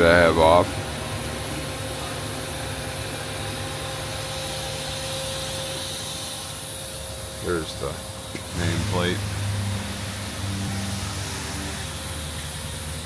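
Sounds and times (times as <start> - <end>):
cooling fans whirring: 0.0 - 13.0
electrical hum: 0.0 - 13.0.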